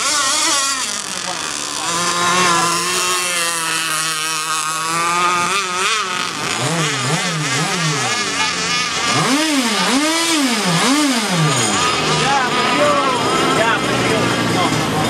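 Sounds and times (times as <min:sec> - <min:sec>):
small engine revving: 0:00.0 - 0:15.0.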